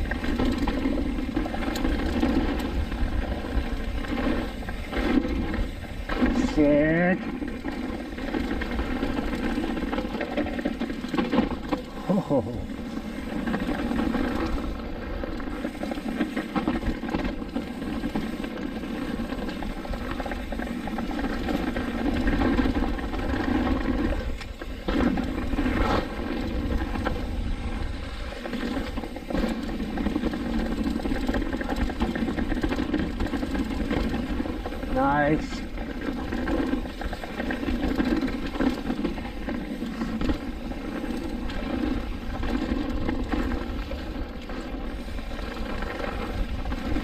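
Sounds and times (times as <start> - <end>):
bike tyres rolling on dirt: 0.0 - 47.0.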